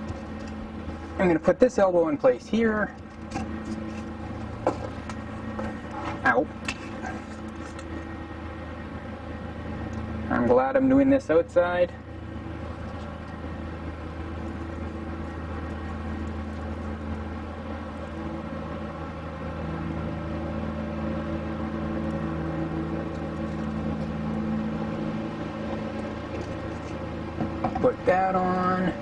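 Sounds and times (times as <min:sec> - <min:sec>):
engine running with low hum: 0:00.0 - 0:29.0.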